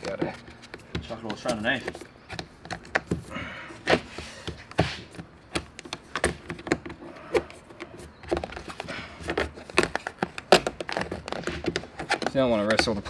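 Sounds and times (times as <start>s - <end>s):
taps and clicks on plastic: 0.0s - 3.2s, 3.9s - 13.0s.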